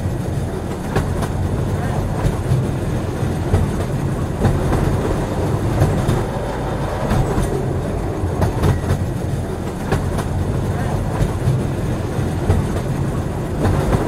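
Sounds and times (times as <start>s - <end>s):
train wheels rumbling: 0.0s - 14.0s
wheels clacking on rail joints: 0.0s - 14.0s.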